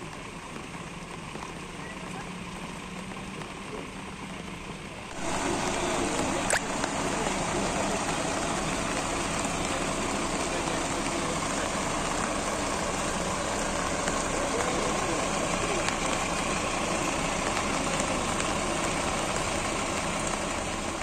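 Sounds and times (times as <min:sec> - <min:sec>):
rain hiss: 0:00.0 - 0:21.0.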